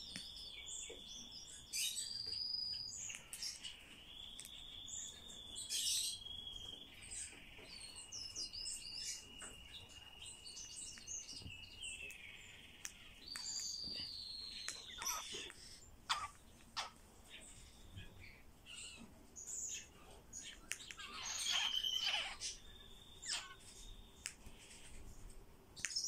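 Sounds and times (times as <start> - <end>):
bird high chirps: 0.0 - 24.9.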